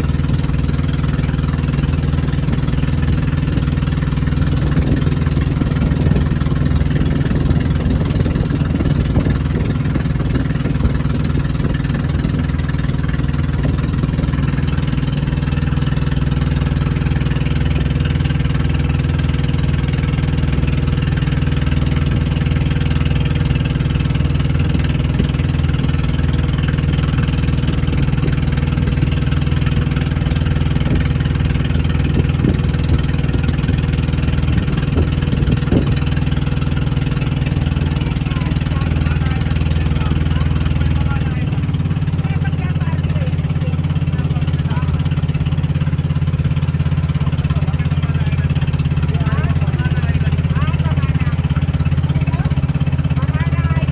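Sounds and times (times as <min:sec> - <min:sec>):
boat engine running: 0:00.0 - 0:53.9
hiss of wind and water: 0:00.0 - 0:53.9.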